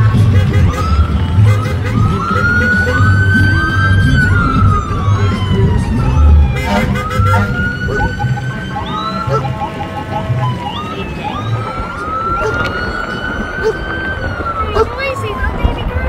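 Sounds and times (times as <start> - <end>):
emergency siren wailing: 0.0 - 16.0
low rumble: 0.0 - 16.0.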